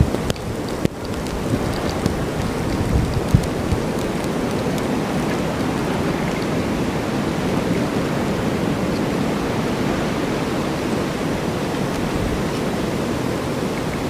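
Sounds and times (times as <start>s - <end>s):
snowstorm wind rushing: 0.0s - 14.0s.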